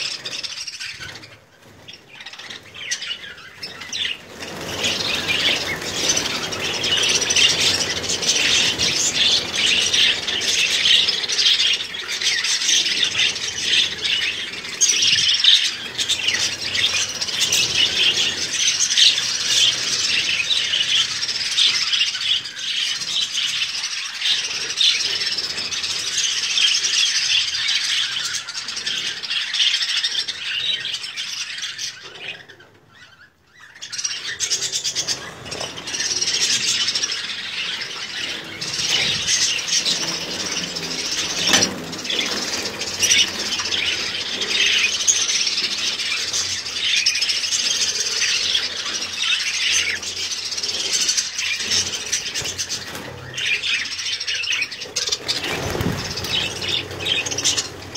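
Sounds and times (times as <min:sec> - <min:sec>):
budgerigars chattering: 0:00.0 - 0:57.9.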